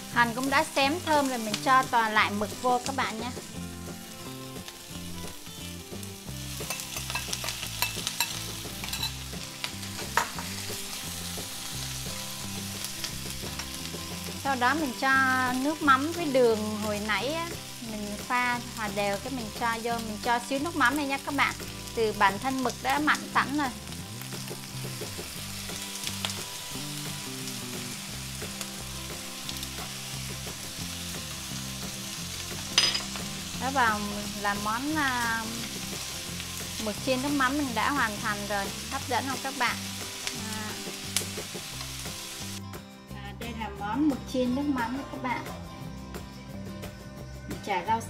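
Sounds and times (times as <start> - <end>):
food sizzling in frying pan: 0.0 - 42.7.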